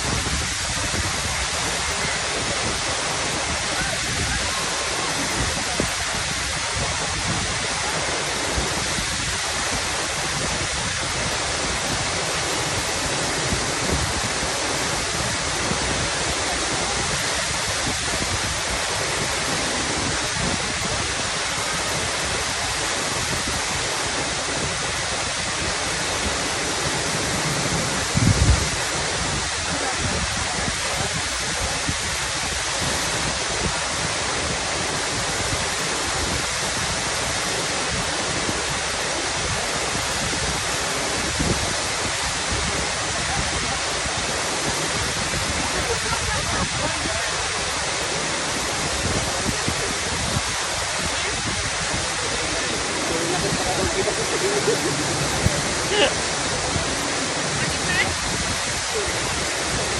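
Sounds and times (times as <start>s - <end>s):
waterfall pouring into pool: 0.0s - 59.9s.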